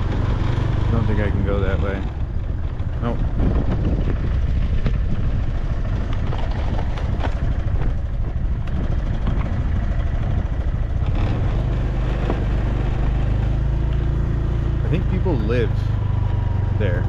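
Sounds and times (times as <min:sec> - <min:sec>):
motorbike engine hum: 0:00.0 - 0:17.0
wind rumble on microphone: 0:00.0 - 0:17.0.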